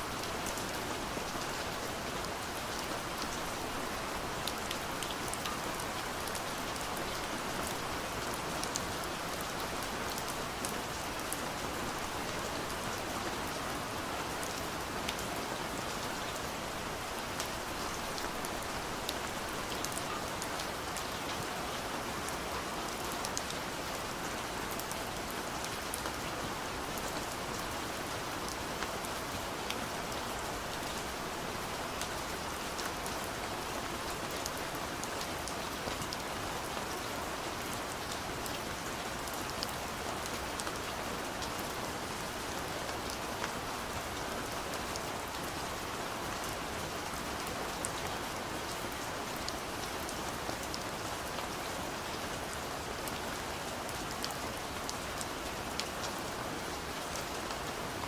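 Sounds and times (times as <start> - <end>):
rain on a window pane: 0.0 - 58.0.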